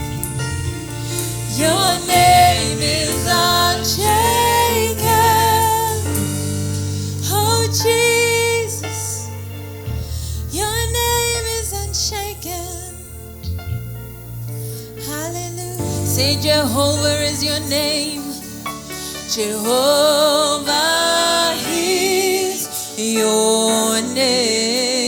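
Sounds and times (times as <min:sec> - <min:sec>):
gospel worship music: 0:00.0 - 0:25.0.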